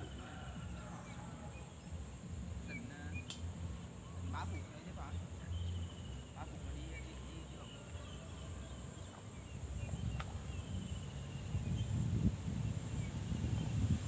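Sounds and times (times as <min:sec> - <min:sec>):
faint chirps: 0:00.0 - 0:12.0
insects trilling: 0:00.0 - 0:14.0
wind rumble on microphone: 0:00.0 - 0:14.0.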